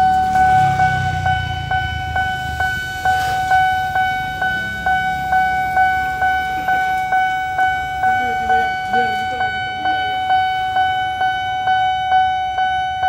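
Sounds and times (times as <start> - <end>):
level-crossing warning bell ringing: 0.0 - 13.0.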